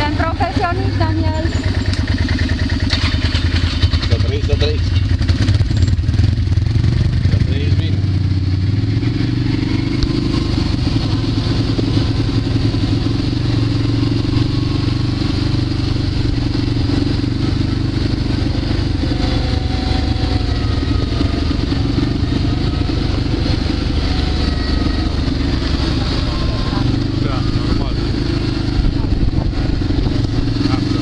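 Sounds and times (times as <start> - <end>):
quad bike engine running: 0.0 - 31.0.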